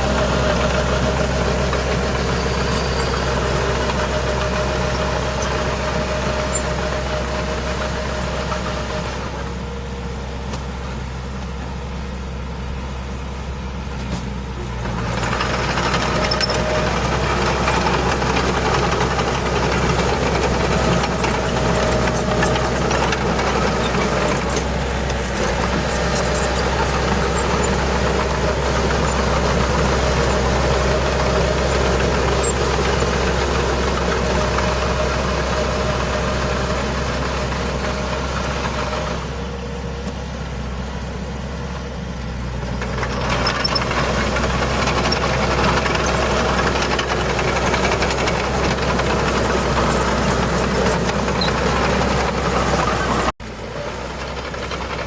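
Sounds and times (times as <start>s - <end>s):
diesel machinery engine running: 0.0s - 55.0s.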